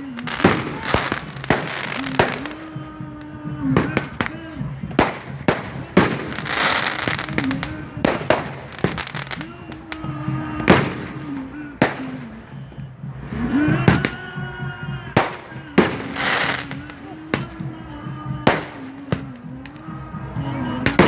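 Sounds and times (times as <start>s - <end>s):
fireworks bangs: 0.0s - 21.0s
fireworks crackling: 0.0s - 21.0s
music: 0.0s - 21.0s
voices: 0.0s - 21.0s.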